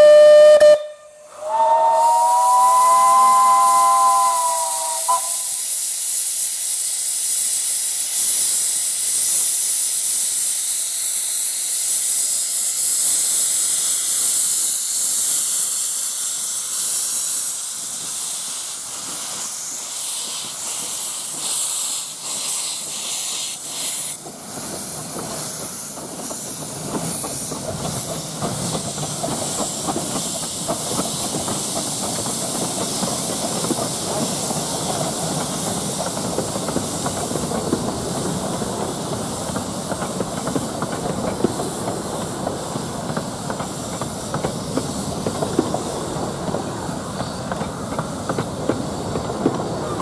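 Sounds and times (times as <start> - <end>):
steam hissing: 0.0 - 50.0
train wheels rumbling: 1.3 - 50.0.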